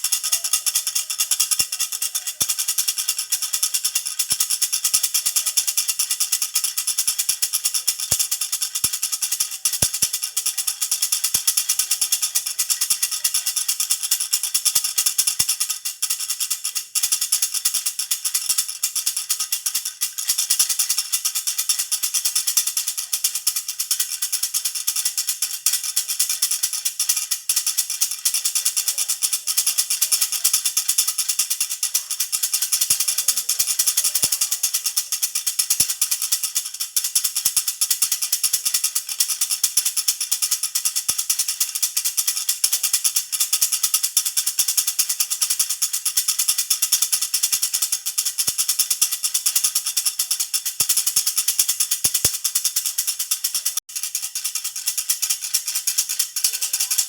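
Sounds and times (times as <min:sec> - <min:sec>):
baby rattle bells jingling: 0:00.0 - 0:57.0.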